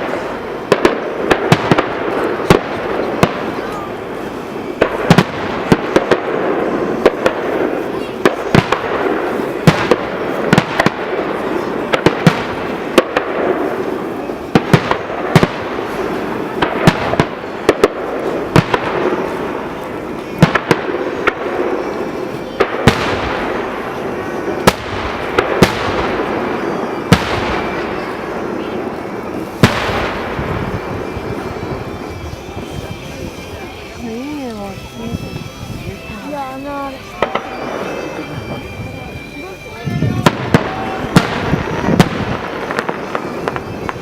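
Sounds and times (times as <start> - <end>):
crowd voices: 0.0 - 44.0
fireworks bangs: 0.0 - 44.0.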